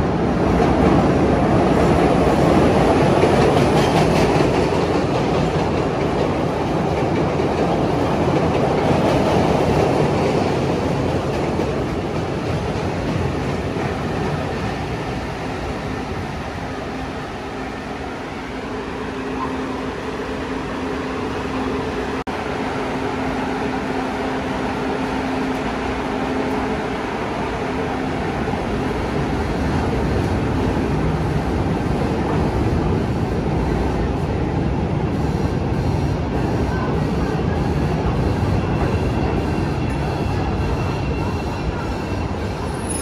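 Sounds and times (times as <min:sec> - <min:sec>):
train wheel-on-rail noise: 0:00.0 - 0:43.0.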